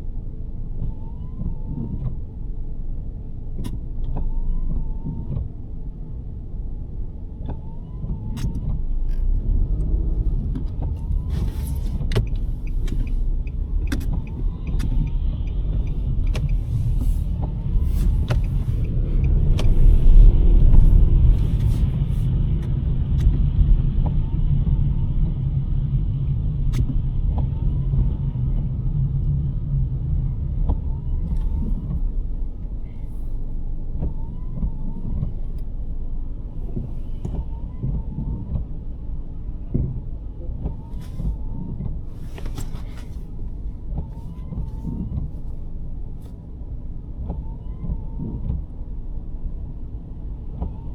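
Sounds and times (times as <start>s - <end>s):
car engine hum: 0.0s - 50.9s
road rumble: 0.0s - 50.9s.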